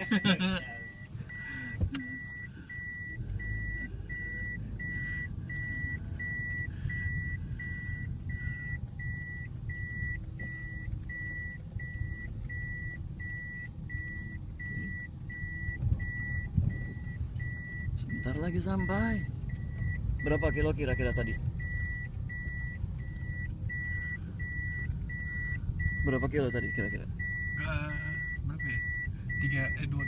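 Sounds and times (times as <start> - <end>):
engine and tyre rumble: 0.0 - 30.0
reversing beeper: 0.0 - 30.0.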